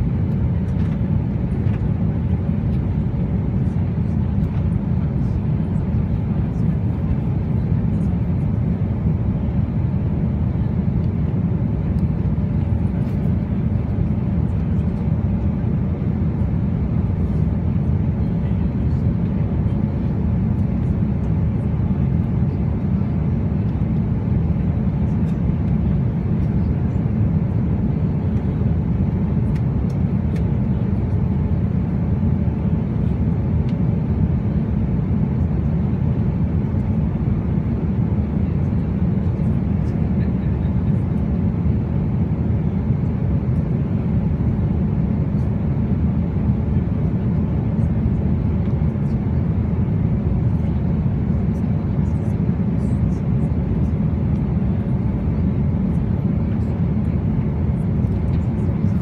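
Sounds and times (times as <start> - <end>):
jet airliner cabin drone: 0.0 - 59.0.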